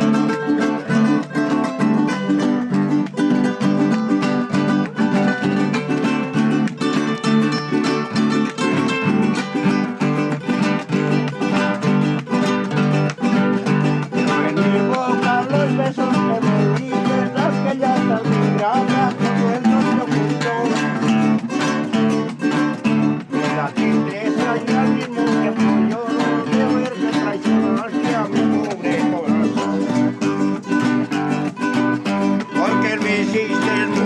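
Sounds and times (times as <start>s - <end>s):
acoustic guitars strumming: 0.0s - 34.0s
plucked string melody: 0.0s - 34.0s.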